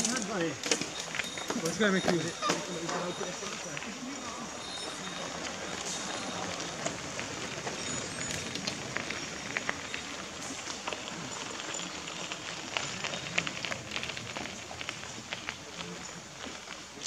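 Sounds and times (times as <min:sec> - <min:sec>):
bicycle tyres crunching on gravel: 0:00.0 - 0:17.0.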